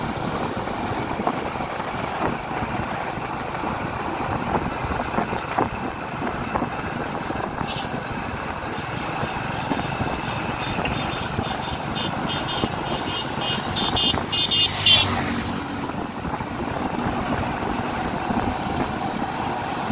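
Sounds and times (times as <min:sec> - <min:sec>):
wind rush: 0:00.0 - 0:11.9, 0:12.6 - 0:19.9
motorcycle engine and road noise: 0:00.0 - 0:19.9.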